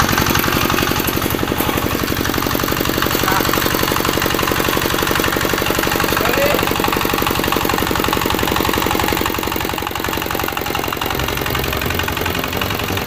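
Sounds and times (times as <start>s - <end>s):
diesel engine chugging: 0.0s - 13.0s
wheels churning gravel and sand: 0.0s - 13.0s.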